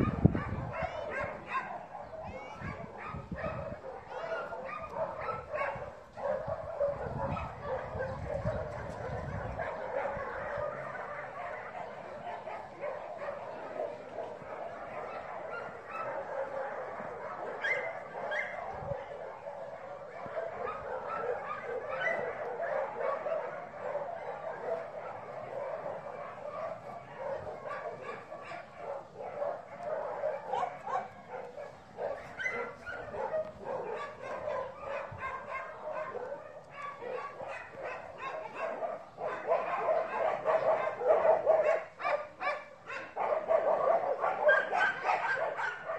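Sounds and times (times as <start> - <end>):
dogs barking and yipping: 0.0 - 45.9.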